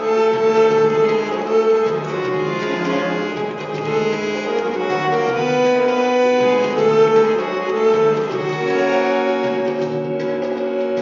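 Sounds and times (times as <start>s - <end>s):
slow instrumental music: 0.0s - 11.0s.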